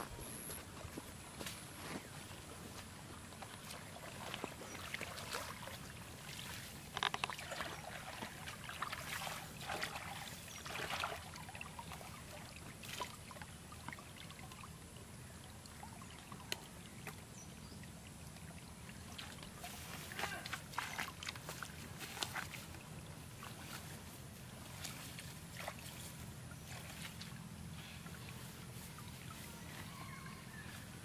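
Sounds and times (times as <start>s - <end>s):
water sloshing and splashing: 1.9s - 31.0s
faint trickle of water: 2.0s - 31.0s.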